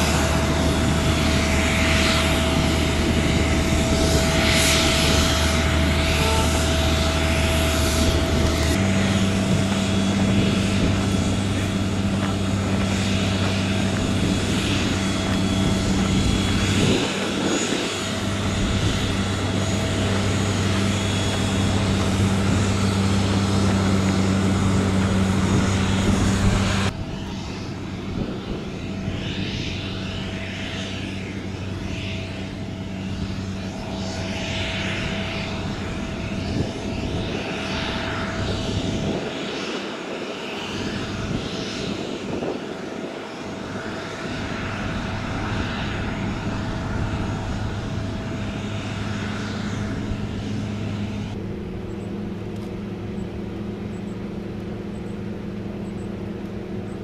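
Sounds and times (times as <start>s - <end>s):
airliner engine drone and whine: 0.0s - 57.0s.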